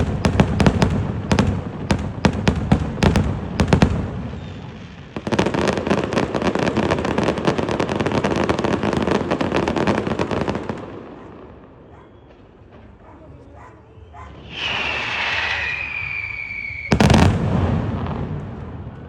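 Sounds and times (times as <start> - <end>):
firework crackle: 0.0 - 10.8, 14.3 - 19.0
loud firework bangs: 0.0 - 19.0.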